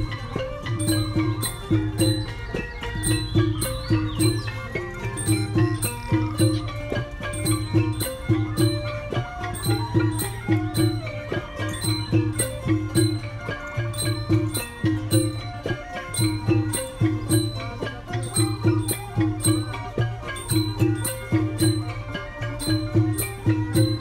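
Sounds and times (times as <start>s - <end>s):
folk music with plucked melody: 0.0s - 24.0s.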